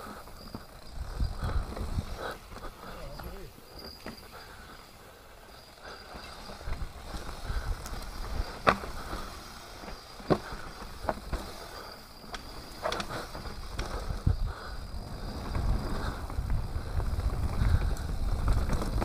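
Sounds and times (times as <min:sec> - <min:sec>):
bike clattering over bumps: 0:00.0 - 0:19.0
bike tyres rumbling on dirt: 0:00.0 - 0:19.0.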